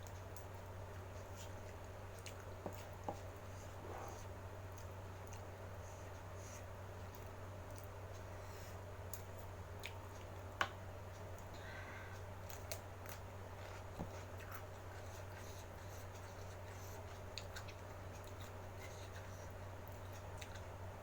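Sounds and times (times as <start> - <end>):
low electrical hum: 0.0 - 21.0
mouth clicks and soft chewing: 0.0 - 21.0.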